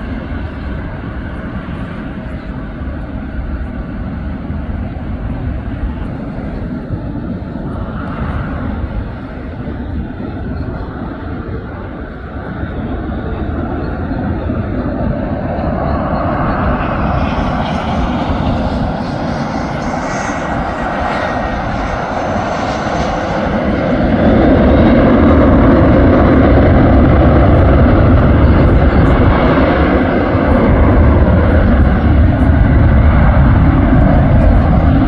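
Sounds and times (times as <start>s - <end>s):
jet engines roaring past: 0.0s - 35.0s.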